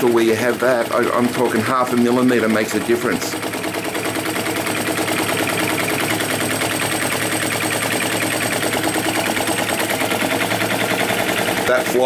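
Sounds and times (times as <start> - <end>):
small engine clicking clatter: 0.0 - 12.0.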